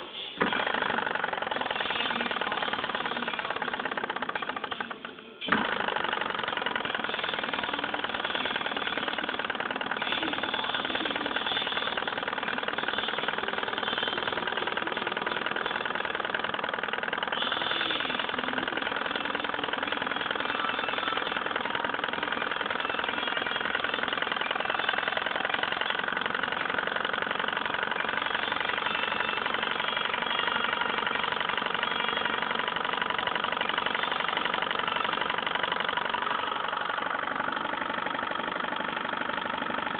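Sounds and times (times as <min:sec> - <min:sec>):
stirling engine running: 0:00.0 - 0:39.9.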